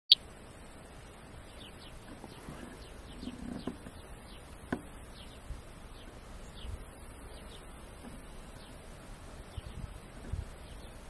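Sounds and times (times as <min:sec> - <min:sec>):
small birds chirping: 0:00.1 - 0:11.0
steady high hiss: 0:00.1 - 0:11.0.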